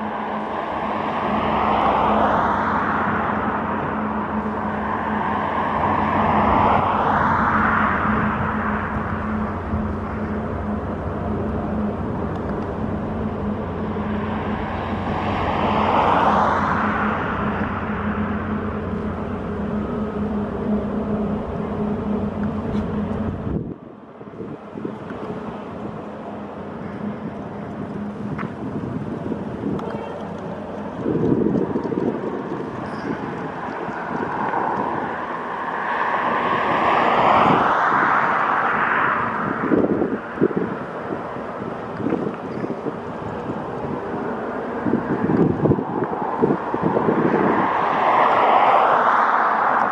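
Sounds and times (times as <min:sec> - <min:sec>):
hollow tone sweeping in pitch: 0:00.0 - 0:40.2
rushing noise: 0:00.0 - 0:49.9
ship machinery drone: 0:00.0 - 0:49.9
wind buffeting microphone: 0:00.0 - 0:49.9.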